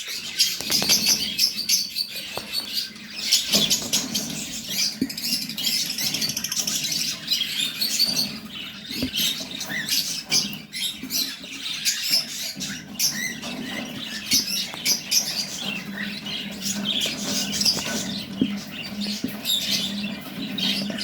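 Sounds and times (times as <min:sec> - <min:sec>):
cockatiels chirping and squawking: 0:00.0 - 0:21.0.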